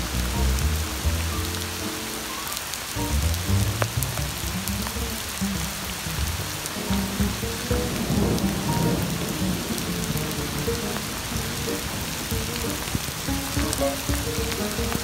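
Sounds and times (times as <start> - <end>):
heavy rain on pavement: 0.0 - 15.0
jazz piano trio music: 0.0 - 15.0
thunder rumble: 3.0 - 15.0.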